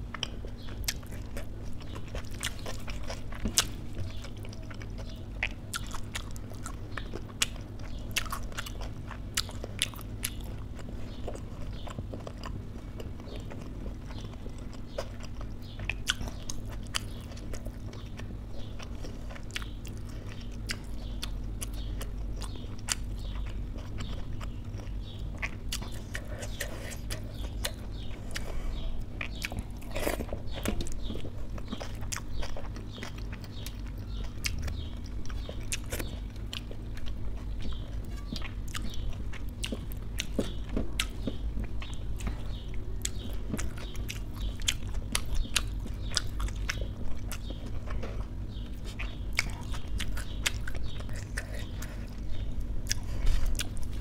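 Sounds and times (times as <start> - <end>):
chewing and wet mouth sounds: 0.0 - 54.0
steady low hum: 0.0 - 54.0.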